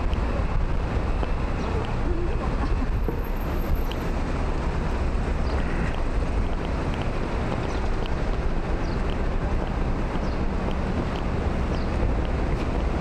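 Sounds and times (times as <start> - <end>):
faint city street noise: 0.0 - 13.0
wind buffeting microphone: 0.0 - 13.0.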